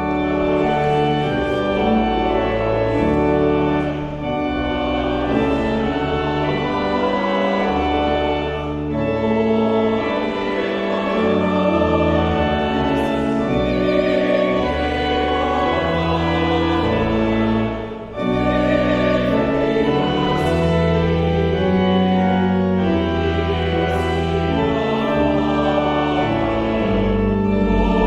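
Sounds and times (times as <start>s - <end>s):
choir and congregation singing hymn: 0.0s - 28.0s
church organ: 0.0s - 28.0s.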